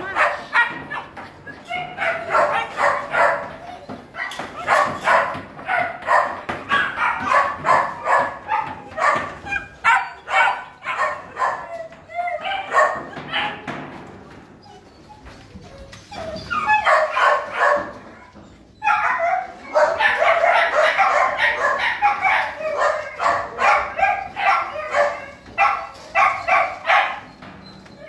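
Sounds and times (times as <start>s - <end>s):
dog barking: 0.0s - 3.6s, 4.2s - 13.6s, 16.8s - 18.1s, 18.8s - 27.3s.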